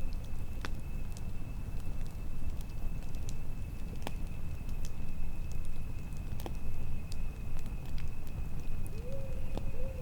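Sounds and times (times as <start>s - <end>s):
campfire crackling and popping: 0.0s - 9.8s
low wind rumble: 0.0s - 10.0s.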